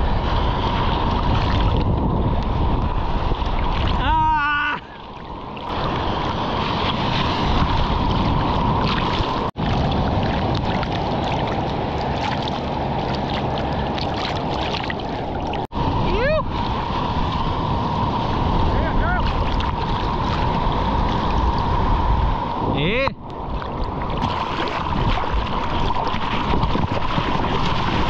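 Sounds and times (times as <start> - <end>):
ocean surf: 0.0 - 28.0
wind buffeting the microphone: 0.0 - 28.0.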